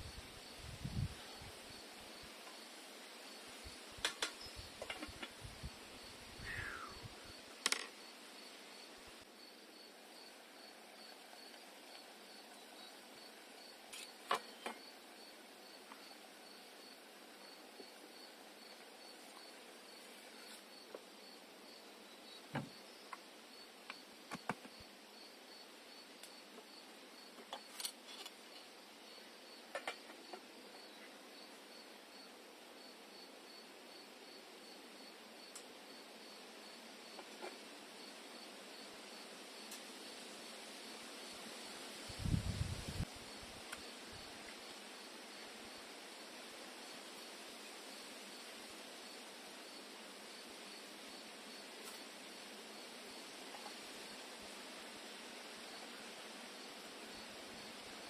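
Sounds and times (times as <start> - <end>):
insect chirping: 0.0 - 58.0
steady outdoor hiss: 0.0 - 58.0.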